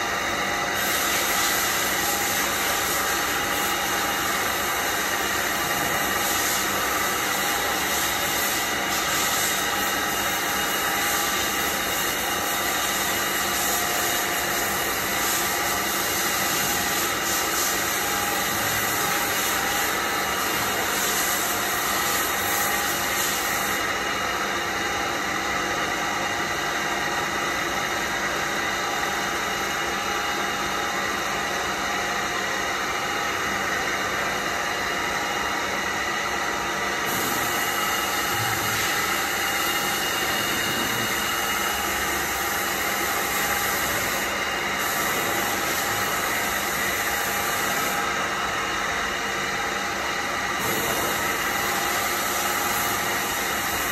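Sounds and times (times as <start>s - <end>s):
milling machine humming and whining: 0.0s - 53.9s.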